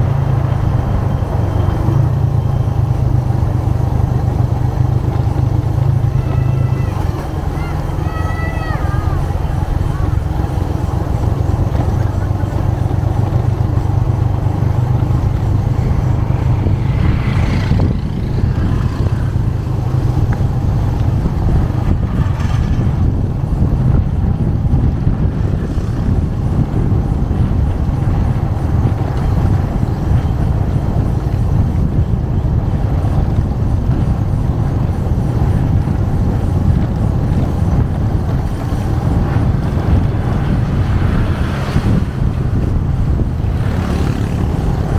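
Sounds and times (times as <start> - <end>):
motorcycle engine droning: 0.0 - 44.9
wind rush on microphone: 0.0 - 44.9.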